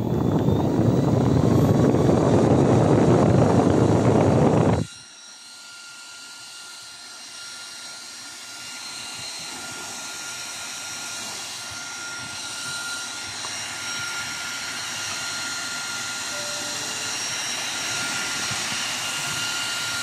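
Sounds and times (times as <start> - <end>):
fan motor whine: 0.0 - 20.0.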